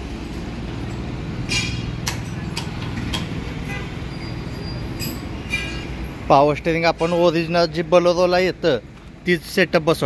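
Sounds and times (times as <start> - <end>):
vehicle engine humming: 0.0 - 9.8.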